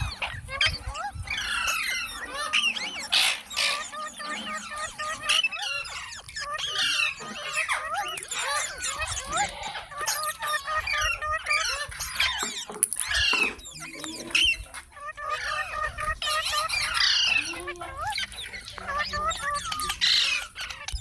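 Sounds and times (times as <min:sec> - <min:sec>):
parrot chattering and squawking: 0:00.0 - 0:21.0
parrot talk-like mimicry: 0:00.0 - 0:21.0.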